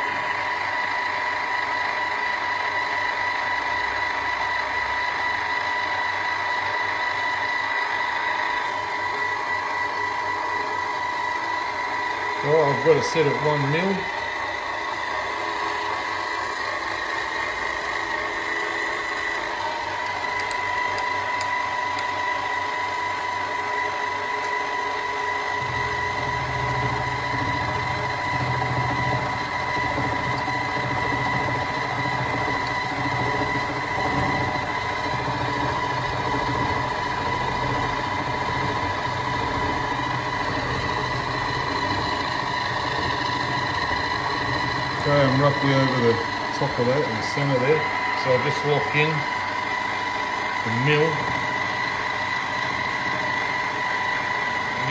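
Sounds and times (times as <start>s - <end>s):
milling machine motor whine: 0.0s - 54.9s.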